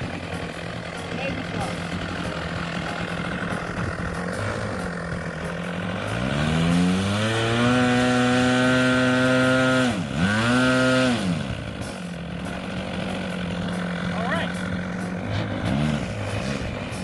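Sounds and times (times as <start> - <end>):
model airplane engine revving: 0.0 - 17.0.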